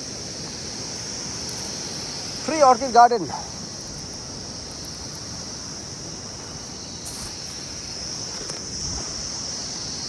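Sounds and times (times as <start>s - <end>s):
faint background hiss: 0.0s - 10.0s
high-pitched insect chorus: 0.0s - 10.0s.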